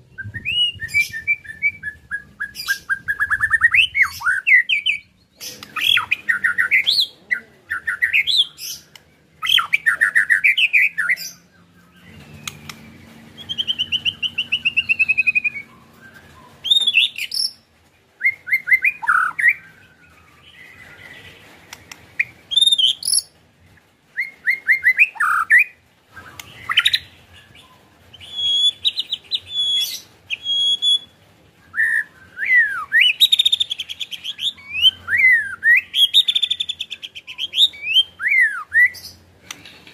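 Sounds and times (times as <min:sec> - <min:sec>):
songbird whistling and rattling: 0:00.1 - 0:07.1, 0:07.8 - 0:23.4, 0:24.1 - 0:39.9.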